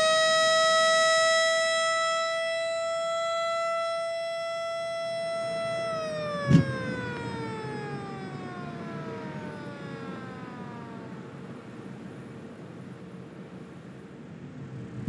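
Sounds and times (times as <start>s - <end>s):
spinning rotor whine: 0.0s - 13.8s.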